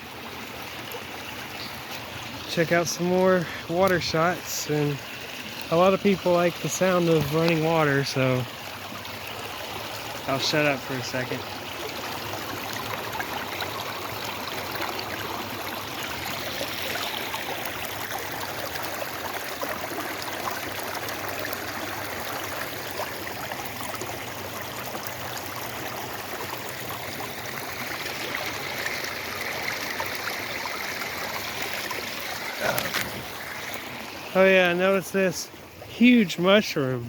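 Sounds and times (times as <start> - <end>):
floodwater rushing and splashing: 0.0 - 37.0.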